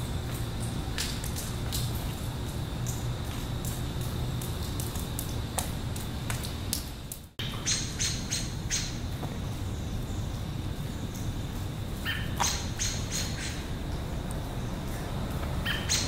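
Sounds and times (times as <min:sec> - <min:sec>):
low steady background noise: 0:00.0 - 0:16.0.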